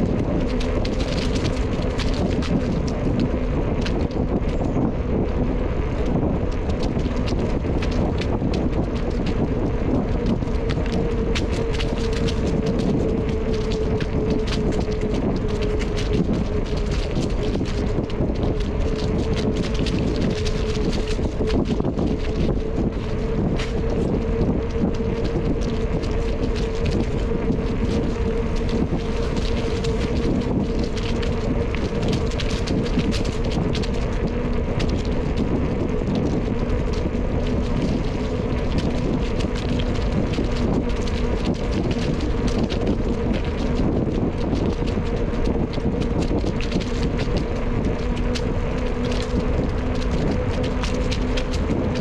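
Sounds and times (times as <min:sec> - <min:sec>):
bicycle ticks and rattles: 0:00.0 - 0:52.0
steady low hum: 0:00.0 - 0:52.0
wind rushing over microphone: 0:00.0 - 0:52.0.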